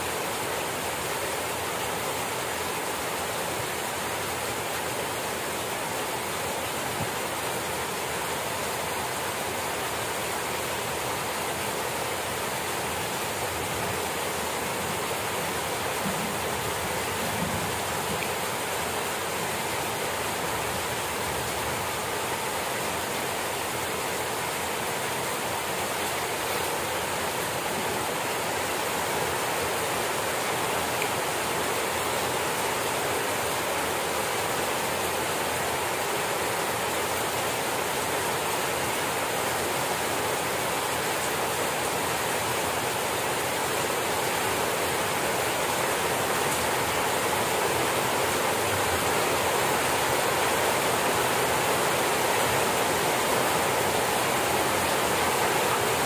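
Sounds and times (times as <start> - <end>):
rain falling on grass and leaves: 0.0 - 56.0.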